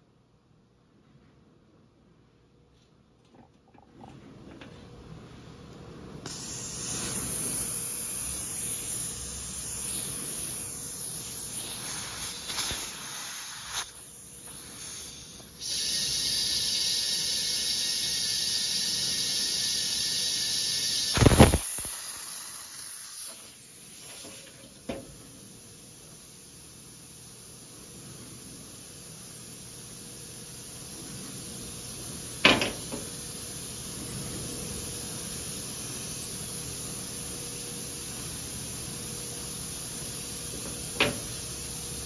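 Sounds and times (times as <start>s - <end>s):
compressed air hissing: 6.2s - 42.0s.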